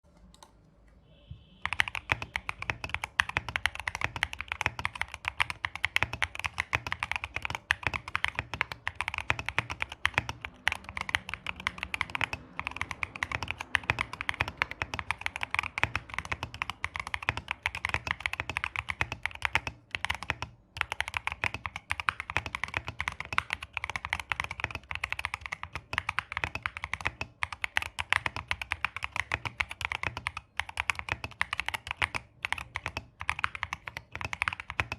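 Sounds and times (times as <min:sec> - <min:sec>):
fast mechanical keyboard typing: 0:01.6 - 0:34.9.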